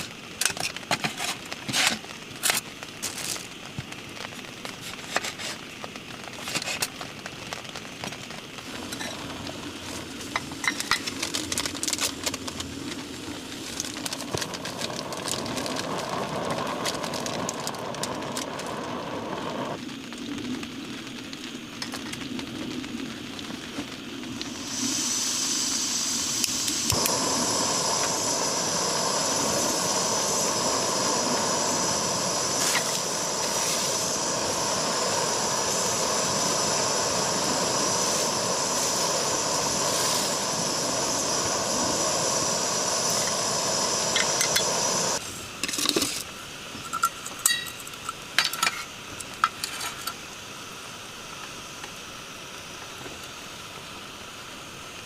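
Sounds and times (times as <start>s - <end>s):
loud hiss with whistling tones: 0.0s - 55.0s
soft rain-like hiss: 0.0s - 55.0s.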